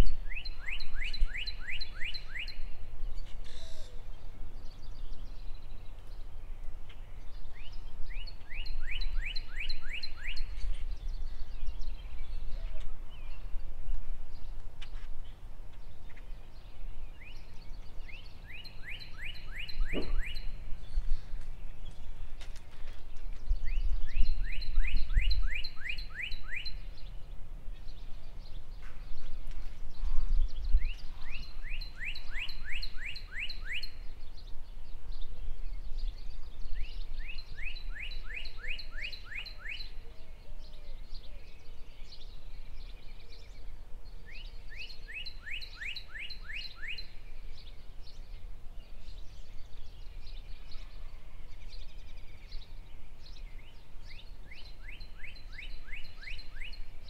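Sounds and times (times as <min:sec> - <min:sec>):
soft bird chirps: 0:00.0 - 0:57.0.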